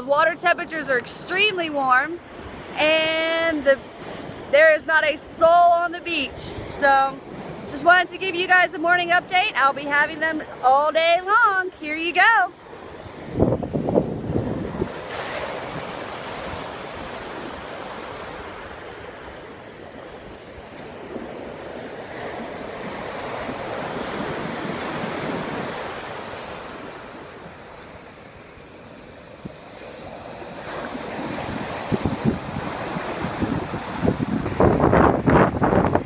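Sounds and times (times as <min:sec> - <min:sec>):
surf breaking on beach: 0:00.0 - 0:36.0
wind buffeting microphone: 0:00.0 - 0:36.0.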